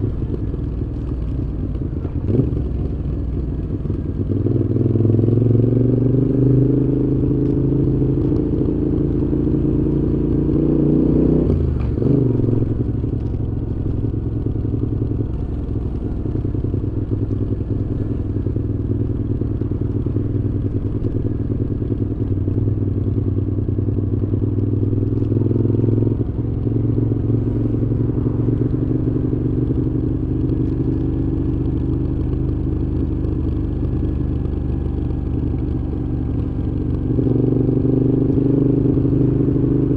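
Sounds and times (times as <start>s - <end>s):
motorcycle engine revving: 2.0s - 39.9s.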